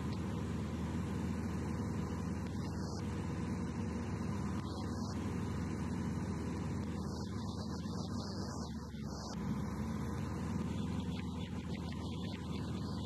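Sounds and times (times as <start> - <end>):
aircraft piston engine and propeller: 0.0 - 13.0.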